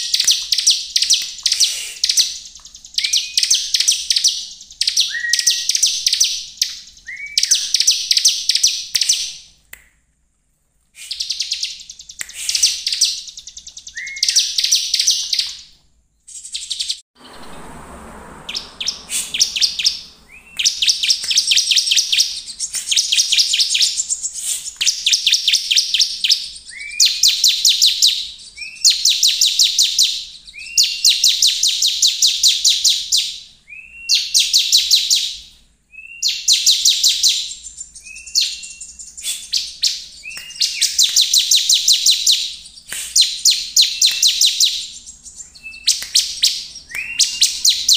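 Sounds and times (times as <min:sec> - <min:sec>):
bird song with rattling trills: 0:00.0 - 0:09.4, 0:11.3 - 0:15.7, 0:16.3 - 0:35.4, 0:36.0 - 0:42.8, 0:43.4 - 0:47.9.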